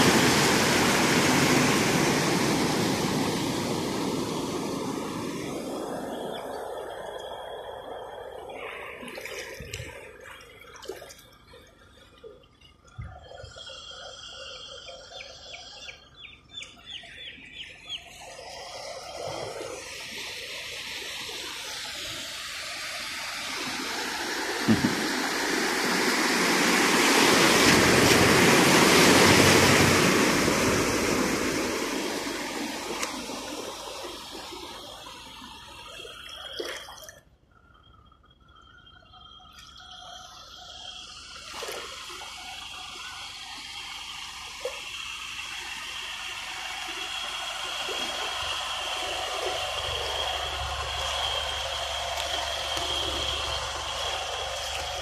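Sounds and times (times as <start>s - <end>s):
truck driving through floodwater: 0.0s - 11.0s, 16.9s - 36.9s, 40.7s - 55.0s
rush of water: 0.0s - 12.0s, 18.1s - 37.2s, 40.8s - 55.0s.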